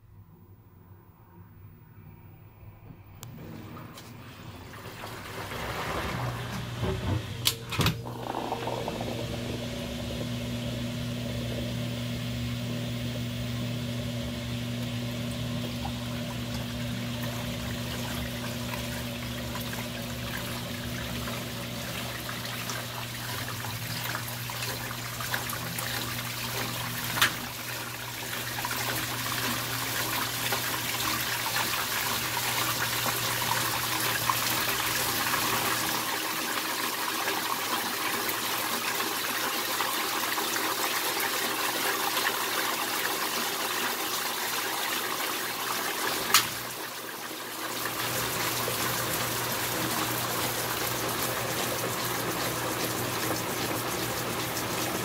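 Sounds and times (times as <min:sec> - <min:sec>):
washer motor hum: 0:02.8 - 0:55.0.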